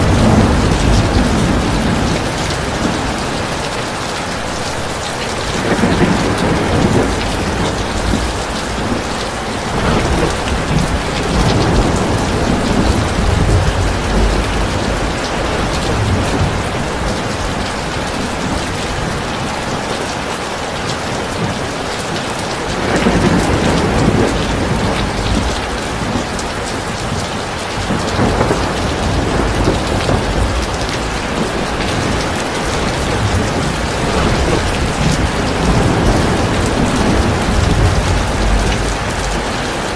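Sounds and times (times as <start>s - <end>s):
thunder rumbling: 0.0s - 20.0s, 22.6s - 39.9s
heavy rain pouring: 0.0s - 39.9s.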